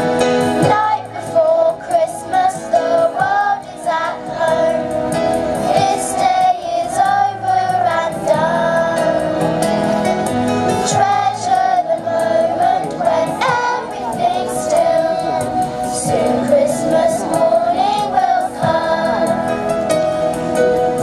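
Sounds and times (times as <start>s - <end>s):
music: 0.0s - 21.0s
children's choir singing: 0.6s - 9.7s, 10.7s - 19.9s.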